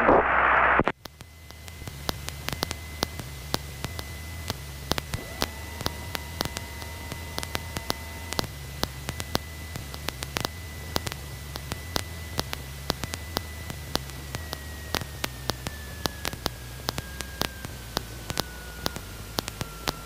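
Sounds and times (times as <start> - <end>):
airplane engine drone: 0.0 - 20.0
crackling static clicks: 0.0 - 20.0
thin high whine: 0.0 - 20.0.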